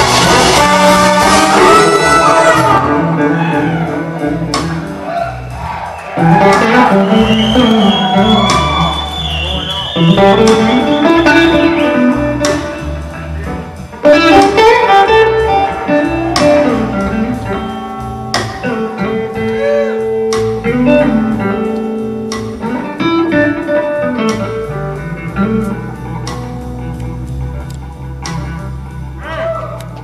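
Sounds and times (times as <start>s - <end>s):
electric blues guitar lead: 0.0s - 30.0s.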